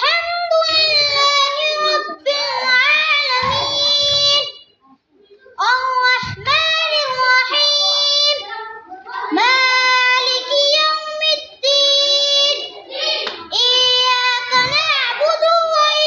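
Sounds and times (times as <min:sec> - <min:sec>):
child reciting melodically: 0:00.0 - 0:16.0.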